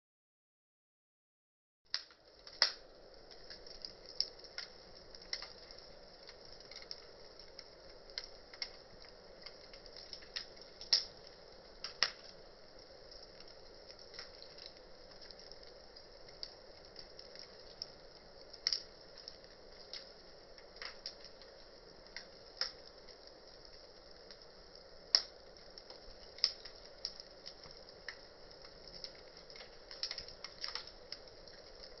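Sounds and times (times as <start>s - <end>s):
campfire crackling: 1.9s - 32.0s
faint steady hiss: 1.9s - 32.0s.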